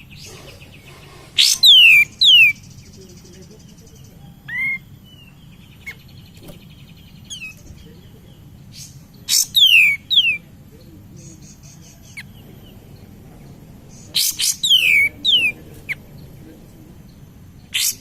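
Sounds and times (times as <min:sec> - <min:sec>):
songbird trilling and whistling: 0:00.0 - 0:10.5, 0:11.2 - 0:18.0.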